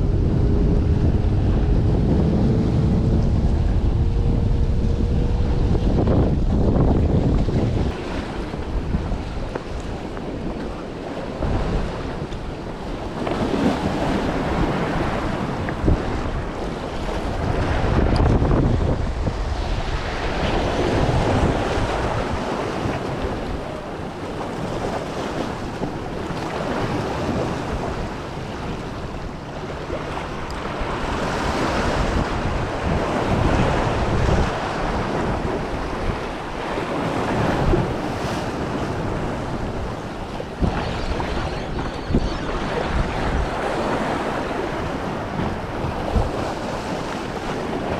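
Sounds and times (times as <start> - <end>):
sea waves washing in: 0.0 - 47.9
wind buffeting microphone: 0.0 - 47.9.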